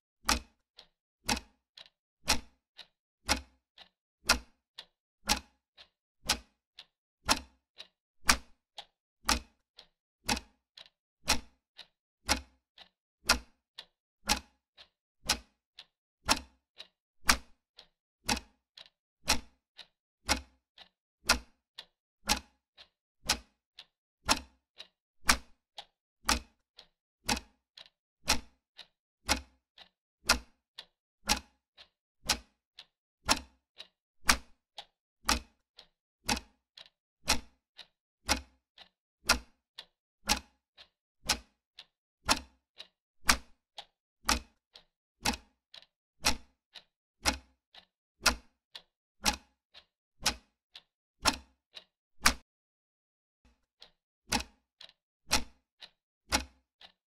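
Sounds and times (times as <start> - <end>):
clock ticking: 0.3 - 52.4, 53.5 - 57.0.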